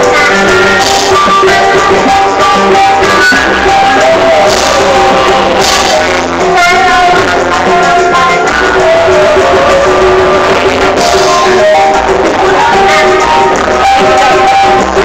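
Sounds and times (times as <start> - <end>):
child singing: 0.0 - 15.0
guitar strumming: 0.0 - 15.0.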